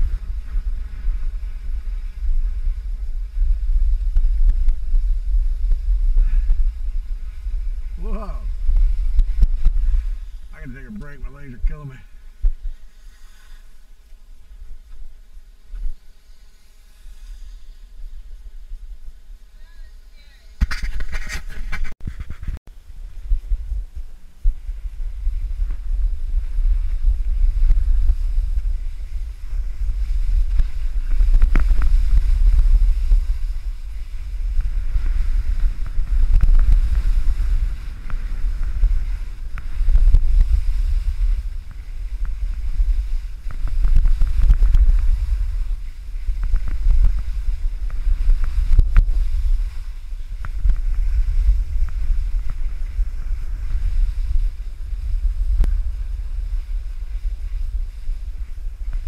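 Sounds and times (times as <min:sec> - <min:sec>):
skis scraping on packed snow: 0:00.0 - 0:19.2, 0:20.7 - 0:59.0
wind buffeting microphone: 0:00.0 - 0:59.0.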